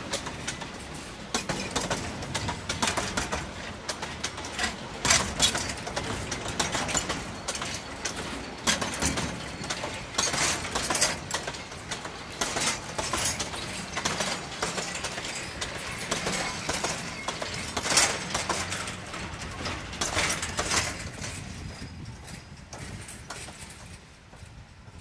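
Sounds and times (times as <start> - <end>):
wagon wheels clanking over rail joints: 0.0 - 24.4.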